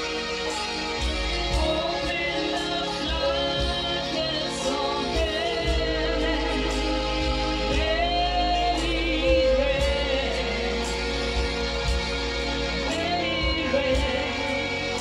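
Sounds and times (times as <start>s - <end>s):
choir singing gospel: 0.0s - 15.0s
steady low bass: 0.0s - 15.0s.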